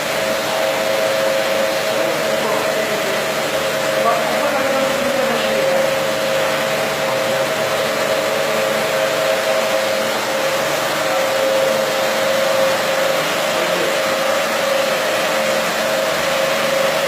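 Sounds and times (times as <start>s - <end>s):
carpet-washing machine hiss: 0.0s - 17.0s
mid-pitched machine whine: 0.0s - 17.0s.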